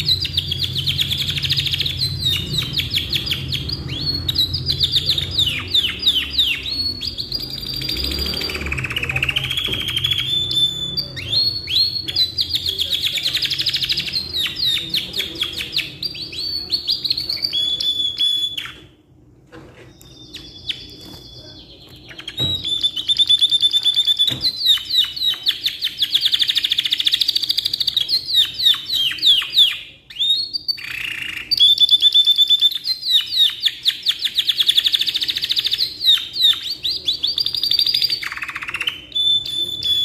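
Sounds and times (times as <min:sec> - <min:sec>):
canary singing trills: 0:00.0 - 0:19.0, 0:19.9 - 0:40.0.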